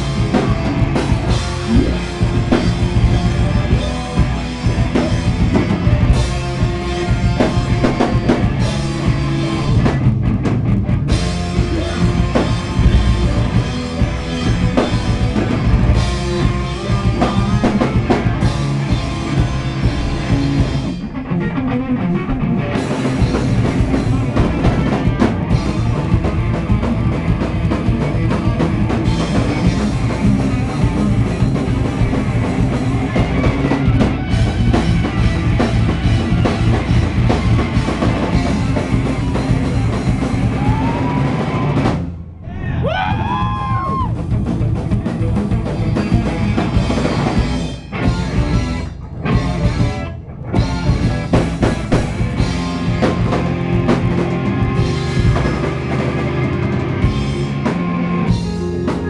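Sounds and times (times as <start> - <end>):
loud live rock band: 0.0 - 59.0.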